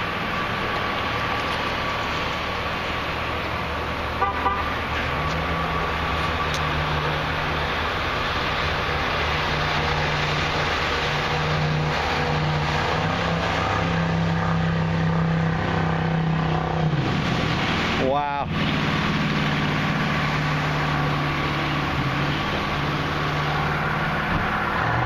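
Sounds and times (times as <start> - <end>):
jet boat engine drone: 0.0 - 25.0.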